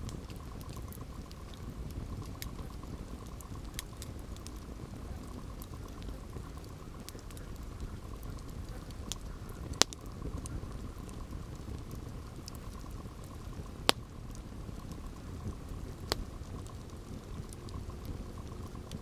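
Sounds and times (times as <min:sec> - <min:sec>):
burning wood snaps and pops: 0:00.0 - 0:19.0
campfire crackling: 0:00.0 - 0:19.0.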